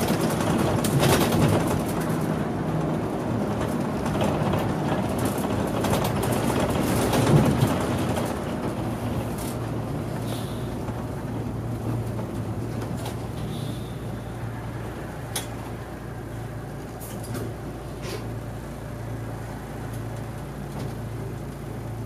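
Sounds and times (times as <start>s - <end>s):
bus engine running: 0.0s - 22.0s.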